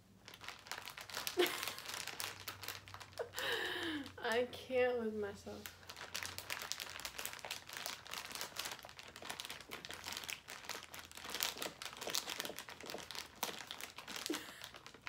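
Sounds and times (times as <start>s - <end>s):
plastic packaging crinkling: 0.0s - 4.6s, 5.3s - 15.0s.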